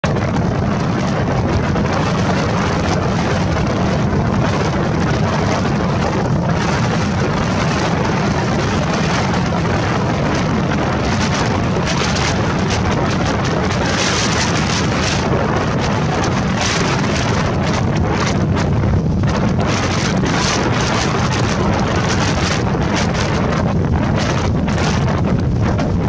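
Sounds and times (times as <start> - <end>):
rough lake water rushing: 0.0 - 26.0
strong wind on microphone: 0.0 - 26.0.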